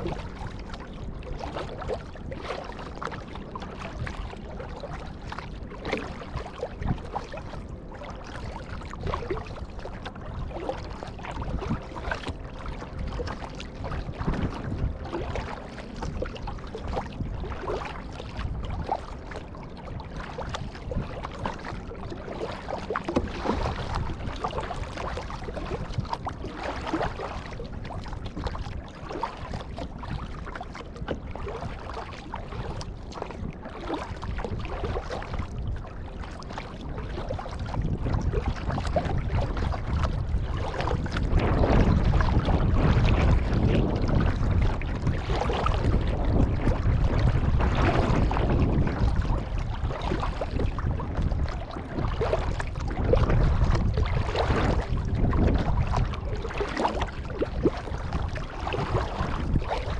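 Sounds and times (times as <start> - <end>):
kayak paddle splashing in water: 0.0 - 59.9
wind buffeting microphone: 0.0 - 59.9.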